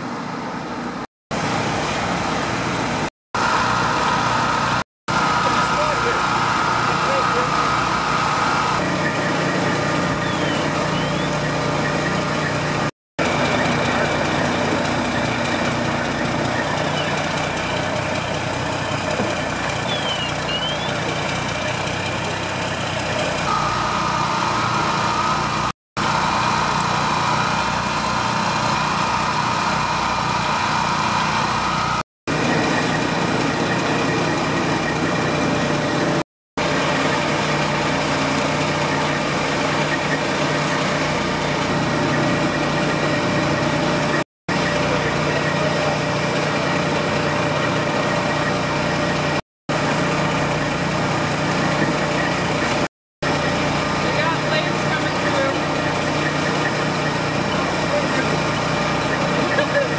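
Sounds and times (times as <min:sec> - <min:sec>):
fire engine pump droning: 0:00.0 - 0:59.9.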